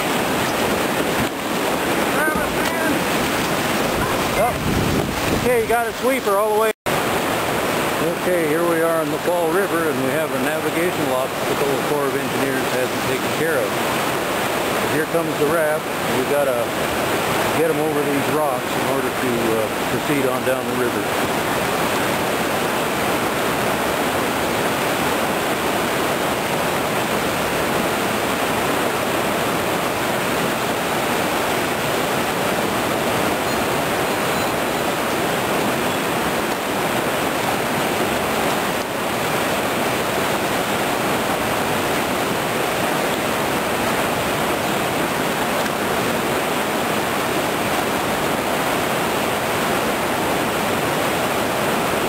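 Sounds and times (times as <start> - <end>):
river rapids roaring: 0.0 - 52.0.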